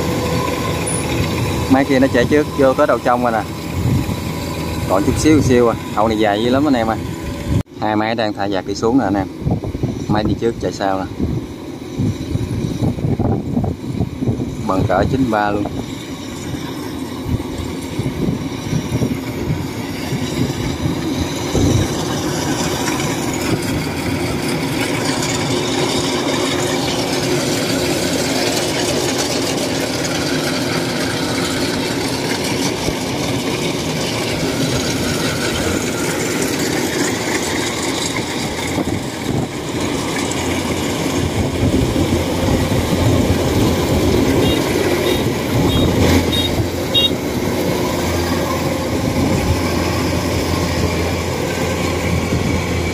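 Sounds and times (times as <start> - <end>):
combine harvester rumbling: 0.0 - 52.9.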